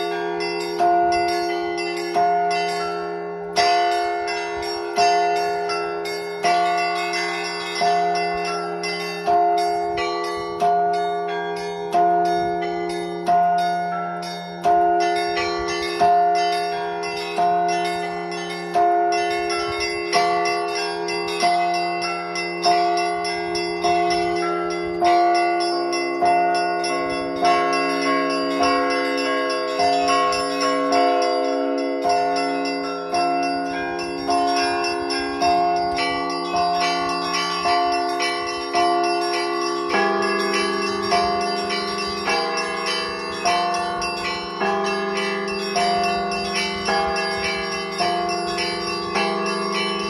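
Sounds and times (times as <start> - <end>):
large church bell strokes: 0.0 - 50.0
low bell hum: 0.0 - 50.0
small bells chiming quickly: 0.0 - 50.0.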